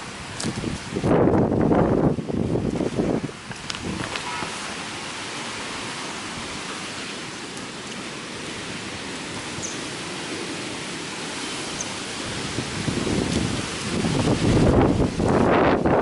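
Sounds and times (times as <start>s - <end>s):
heavy rain hissing: 0.0s - 16.0s
wind rumbling on microphone: 0.0s - 16.0s.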